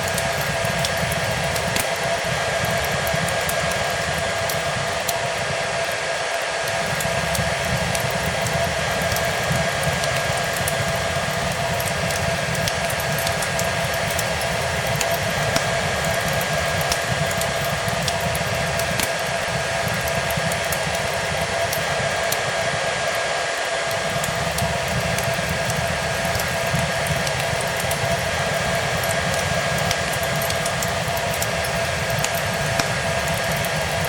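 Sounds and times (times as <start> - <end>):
fireplace crackling: 0.0 - 34.0
hair dryer running: 0.0 - 34.0.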